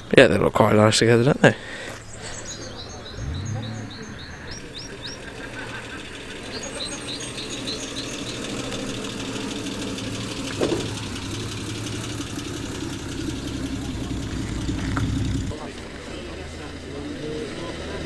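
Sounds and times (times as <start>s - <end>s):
car engine idling: 1.6s - 17.8s.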